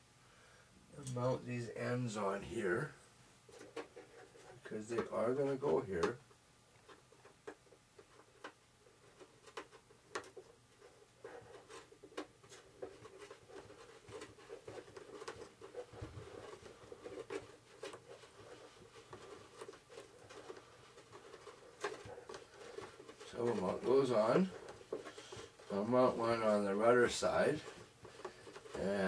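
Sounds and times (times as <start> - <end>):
faint small clicks and rubbing: 3.5 - 29.0.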